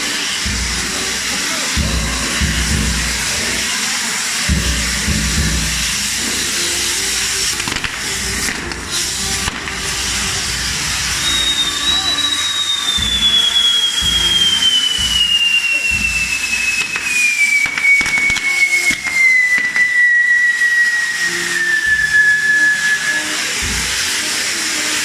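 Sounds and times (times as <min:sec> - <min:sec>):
falling firework whistle: 0:00.0 - 0:25.0
hiss of burning fireworks: 0:00.0 - 0:25.0
sharp firework cracks: 0:00.0 - 0:25.0.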